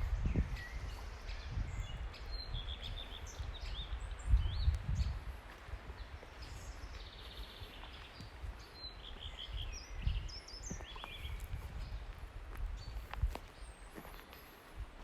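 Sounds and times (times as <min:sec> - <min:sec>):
small birds chirping and trilling: 0:00.0 - 0:14.8.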